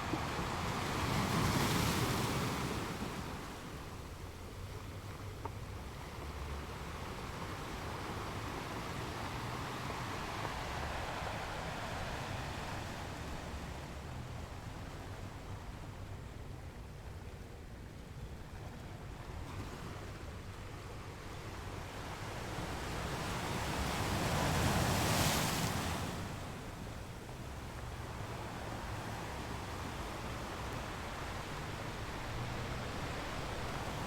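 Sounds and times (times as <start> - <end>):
ocean waves washing on shore: 0.0 - 34.0.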